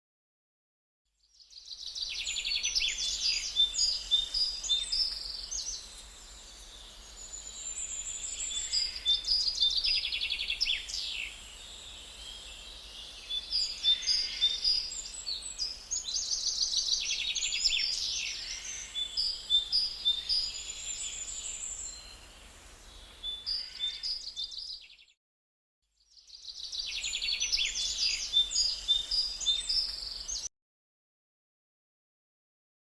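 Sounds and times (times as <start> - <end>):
birds chirping and twittering: 1.3 - 25.2, 26.1 - 30.5.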